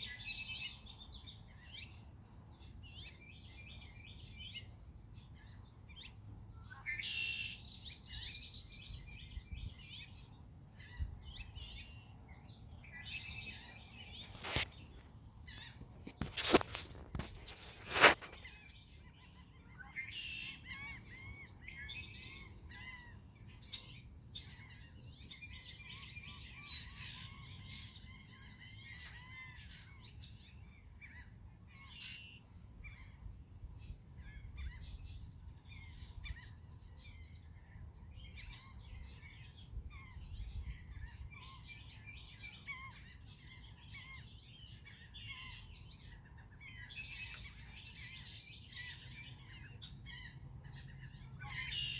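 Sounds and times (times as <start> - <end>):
blackbirds chirping and whistling: 0.0 - 2.1, 5.3 - 33.2, 33.9 - 51.9.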